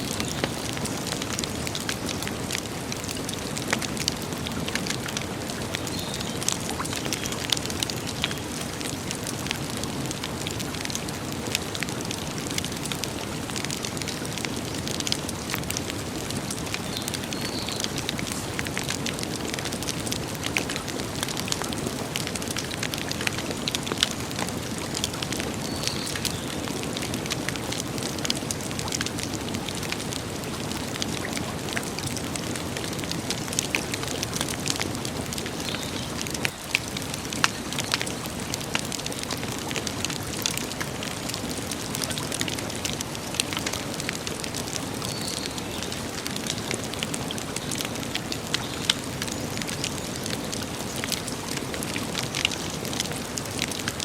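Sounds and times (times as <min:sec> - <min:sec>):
campfire crackles and pops: 0:00.0 - 0:54.0.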